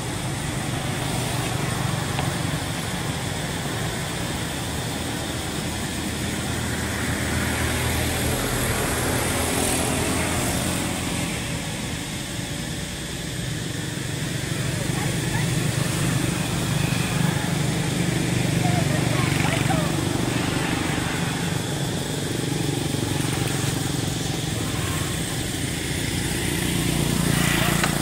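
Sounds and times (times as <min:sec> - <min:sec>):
motorbike passing: 0:00.0 - 0:28.0
vehicles passing on road: 0:00.0 - 0:28.0.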